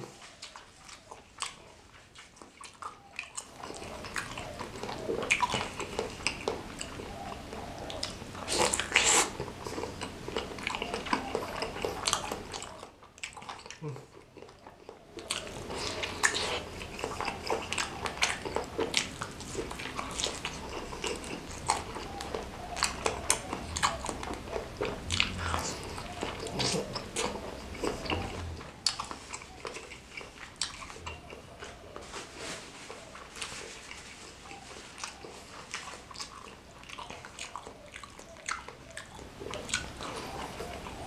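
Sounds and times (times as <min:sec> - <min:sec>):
close chewing and mouth sounds: 0:00.0 - 0:41.0
food crunching: 0:00.0 - 0:41.0.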